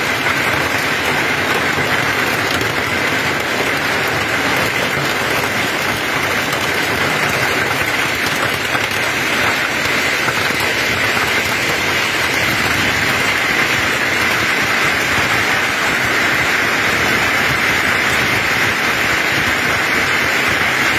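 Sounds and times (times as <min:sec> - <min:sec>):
hail and heavy rain: 0:00.0 - 0:20.9.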